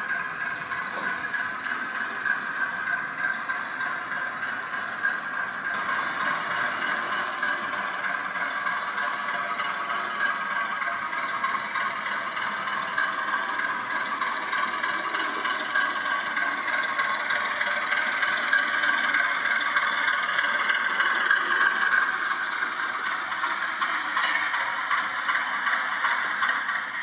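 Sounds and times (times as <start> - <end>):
model train rattling and whirring: 0.0 - 27.0.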